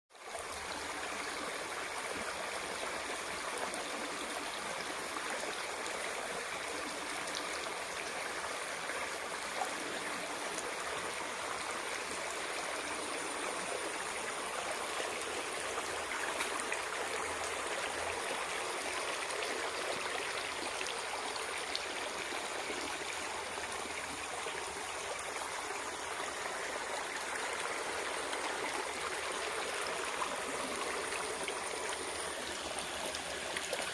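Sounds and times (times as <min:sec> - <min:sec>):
stream water flowing: 0:00.2 - 0:33.9.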